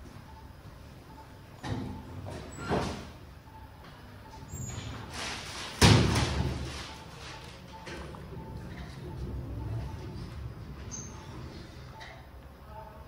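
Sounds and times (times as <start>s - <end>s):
patient monitor beeping: 0.0s - 12.7s.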